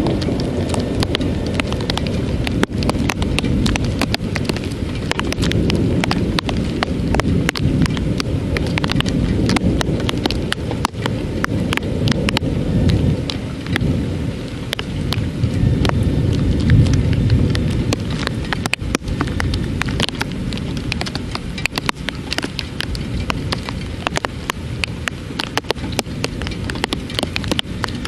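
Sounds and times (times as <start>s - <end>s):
heavy rain: 0.0s - 28.0s
low thunder rumble: 0.0s - 28.0s
raindrops tapping close by: 0.0s - 28.0s.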